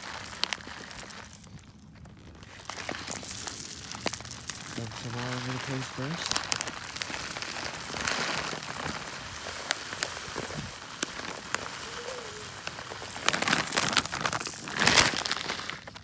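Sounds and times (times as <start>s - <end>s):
birdseed pouring into feeder: 2.5s - 16.0s.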